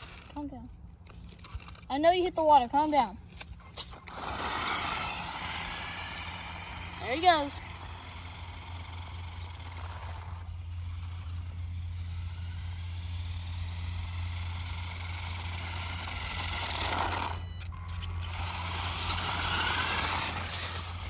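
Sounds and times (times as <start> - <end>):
electric toy car motor whining: 0.0 - 0.6, 3.4 - 21.0
steady low hum: 0.0 - 21.0.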